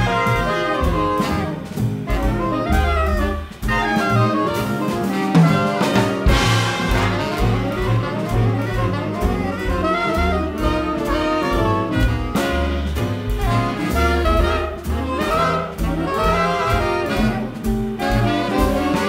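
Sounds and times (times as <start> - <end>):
jazz big band swing: 0.0 - 19.0.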